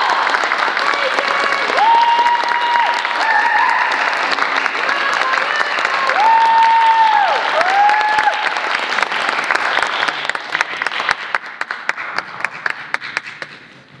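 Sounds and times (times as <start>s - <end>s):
audience applause: 0.0s - 13.5s.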